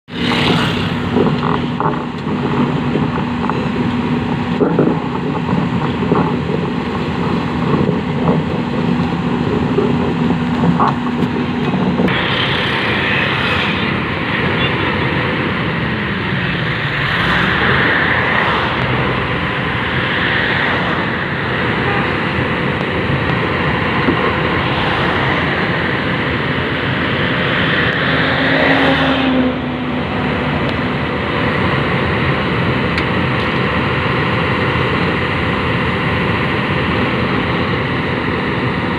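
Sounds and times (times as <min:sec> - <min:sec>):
excavator diesel engine running: 0:00.1 - 0:38.9.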